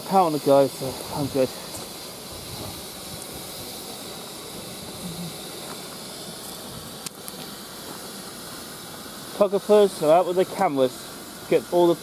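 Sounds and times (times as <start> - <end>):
steam locomotive hissing steam: 0.0 - 12.0.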